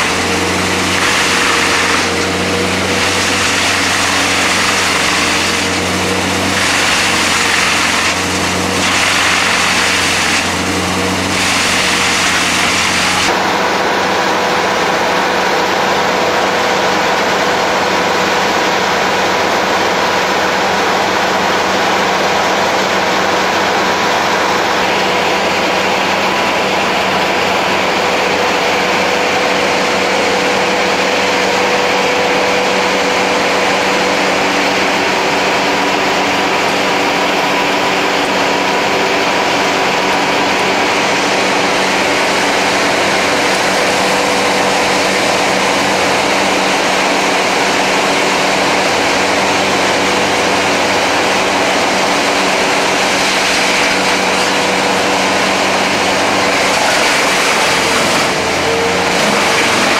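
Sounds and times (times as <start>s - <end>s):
loader engine running steadily: 0.0s - 59.9s.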